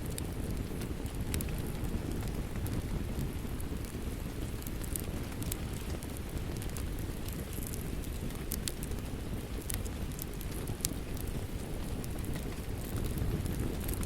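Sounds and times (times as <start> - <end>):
steady rain: 0.0 - 14.0
wood fire crackling: 0.0 - 14.0.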